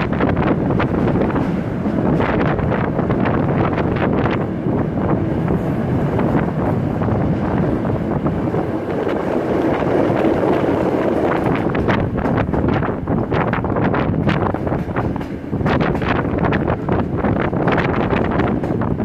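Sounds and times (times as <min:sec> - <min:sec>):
train running noise: 0:00.0 - 0:19.0
wind buffeting microphone: 0:00.0 - 0:19.0.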